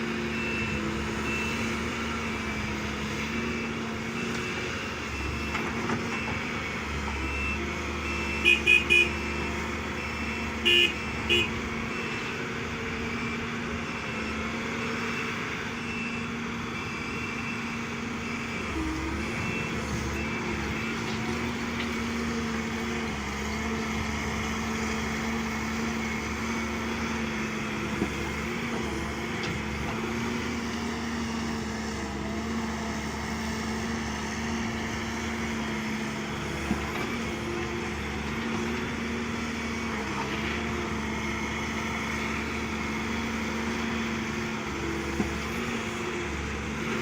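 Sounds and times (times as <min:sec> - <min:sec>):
diesel machinery engine drone: 0:00.0 - 0:47.0.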